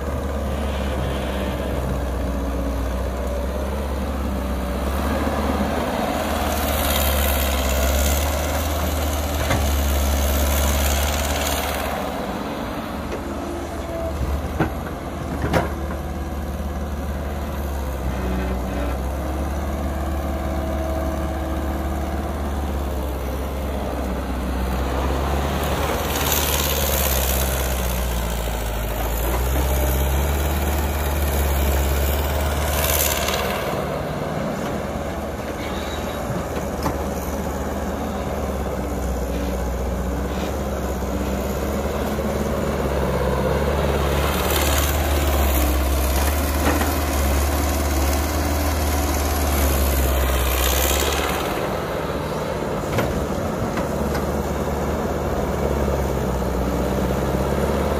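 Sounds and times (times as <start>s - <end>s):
excavator diesel engine under load: 0.0s - 57.9s.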